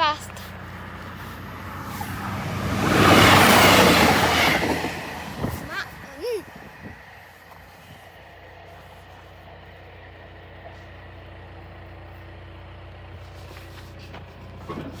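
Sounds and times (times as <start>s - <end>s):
engine idling: 0.0s - 2.8s, 3.4s - 15.0s.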